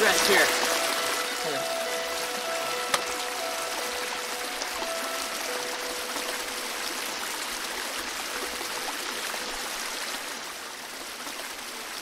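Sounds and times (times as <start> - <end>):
creek running over gravel: 0.0 - 12.0.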